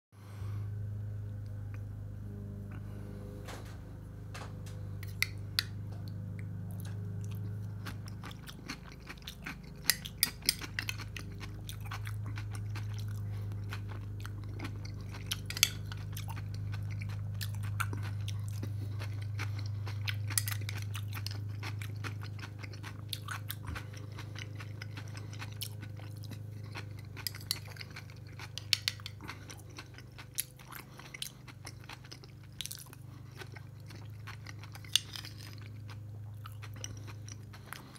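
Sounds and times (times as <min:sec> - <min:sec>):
low hum: 0:00.2 - 0:37.9
chewing and crunching food: 0:04.4 - 0:37.9.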